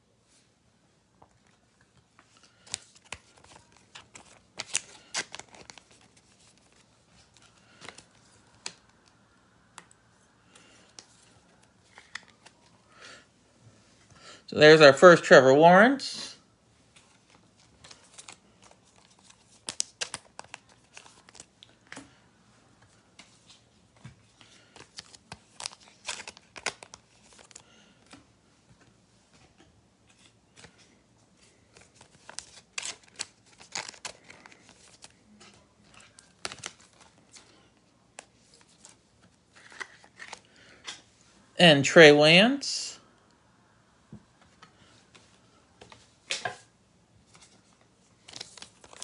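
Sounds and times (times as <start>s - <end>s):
card sleeves crinkling and clicking: 1.2s - 12.8s, 16.9s - 22.2s, 22.8s - 41.1s, 44.4s - 49.0s.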